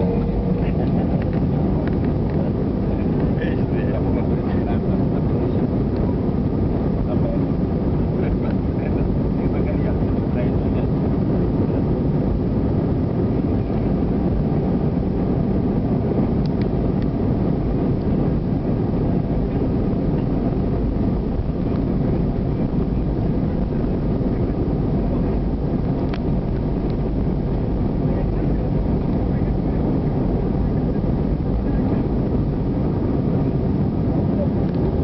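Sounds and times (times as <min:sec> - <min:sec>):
jet engine rumble in cabin: 0:00.0 - 0:35.0.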